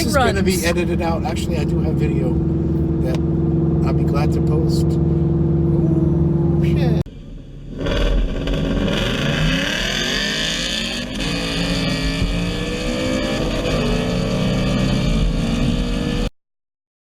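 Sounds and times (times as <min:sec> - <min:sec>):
car engine accelerating hard: 0:00.0 - 0:16.3.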